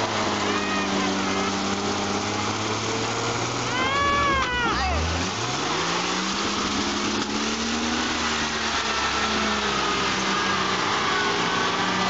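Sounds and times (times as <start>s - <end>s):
truck engine revving under load: 0.0s - 12.0s.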